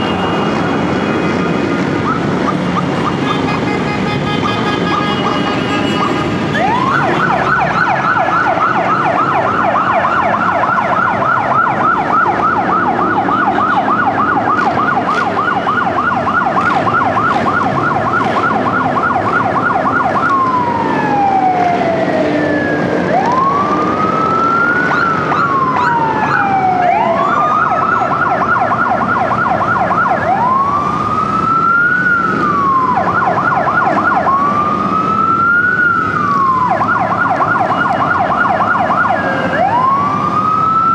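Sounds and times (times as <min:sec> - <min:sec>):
emergency vehicle siren: 0:00.0 - 0:40.9
fainter second siren: 0:04.9 - 0:40.9.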